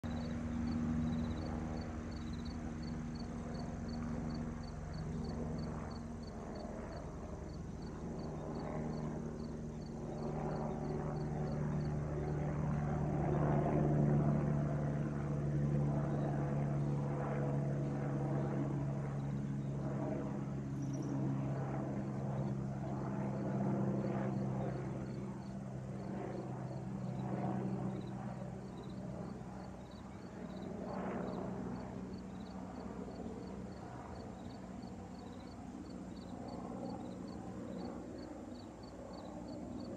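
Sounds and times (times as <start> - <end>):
helicopter flying overhead: 0.0 - 39.9.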